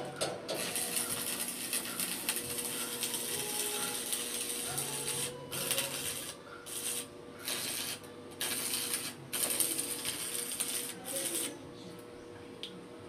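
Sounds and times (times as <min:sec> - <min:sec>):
welding arc crackling: 0:00.0 - 0:11.6.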